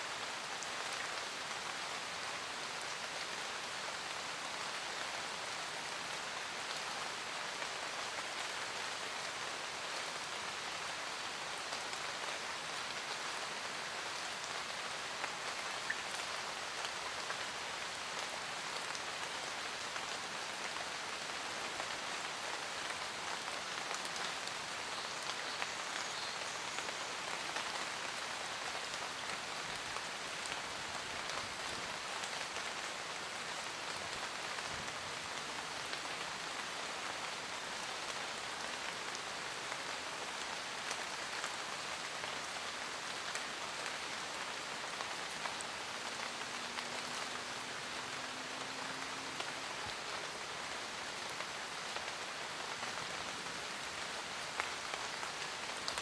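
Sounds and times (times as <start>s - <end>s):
rain pattering on a roof: 0.0s - 56.0s.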